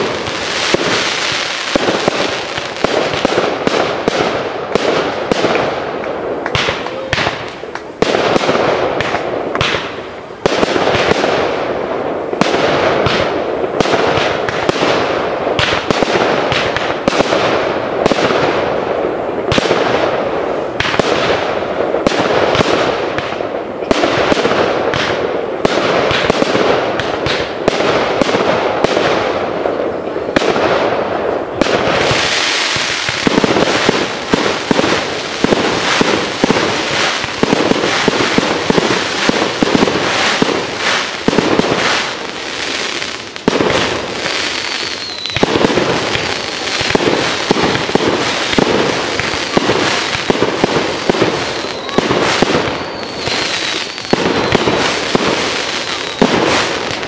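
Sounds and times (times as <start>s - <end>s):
fireworks crackling barrage: 0.0s - 57.0s
fireworks launches and bangs: 0.0s - 57.0s.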